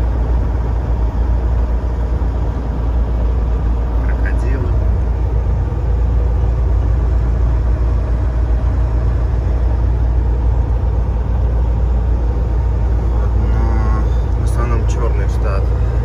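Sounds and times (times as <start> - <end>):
road rumble: 0.0 - 16.0
truck engine drone: 0.0 - 16.0.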